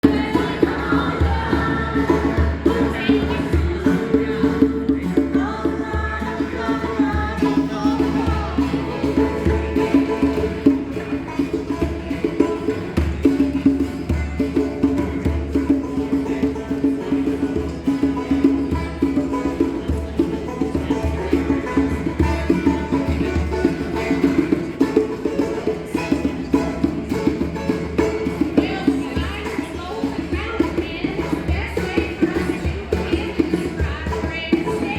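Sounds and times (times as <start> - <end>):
folk song played by small group: 0.0 - 34.9
hand percussion beat: 0.0 - 34.9.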